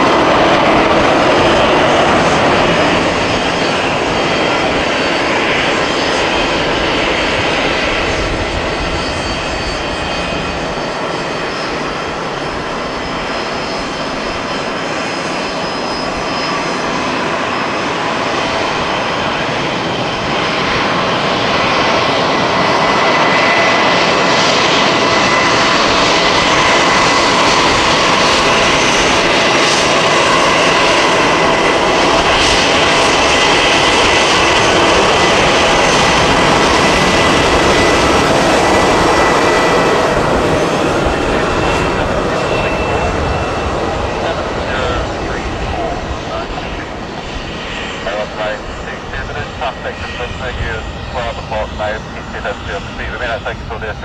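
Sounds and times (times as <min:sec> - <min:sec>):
airliner jet engines: 0:00.0 - 0:54.0
business jet engine whine: 0:00.0 - 0:54.0.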